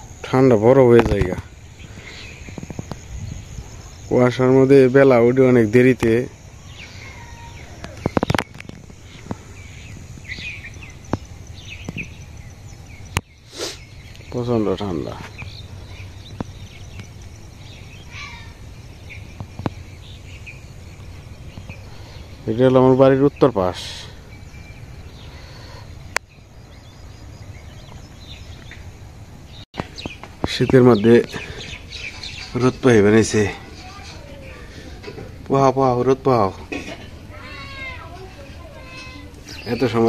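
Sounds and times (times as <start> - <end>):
low outdoor rumble: 0.0 - 40.0
small birds chirping: 0.0 - 40.0.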